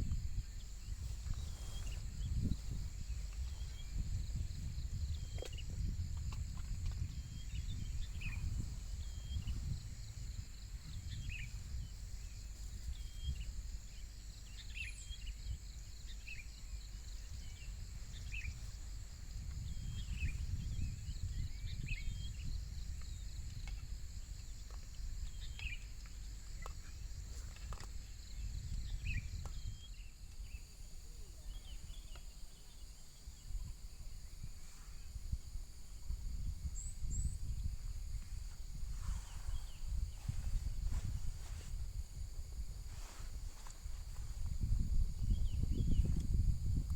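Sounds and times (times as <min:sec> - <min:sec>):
high insect drone: 0:00.0 - 0:46.9
wind rumble on microphone: 0:00.0 - 0:46.9.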